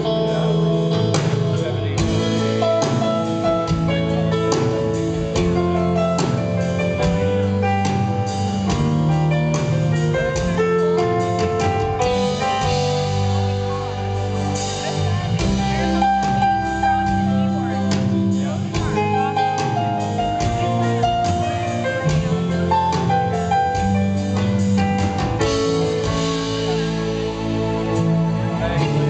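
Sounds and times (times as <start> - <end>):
electric guitar lead: 0.0 - 29.0
live band music: 0.0 - 29.0.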